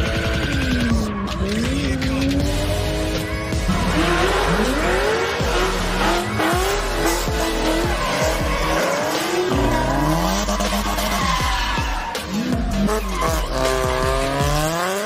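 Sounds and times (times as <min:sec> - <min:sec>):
car engines revving: 0:00.0 - 0:15.0
tyres screeching: 0:00.3 - 0:15.0.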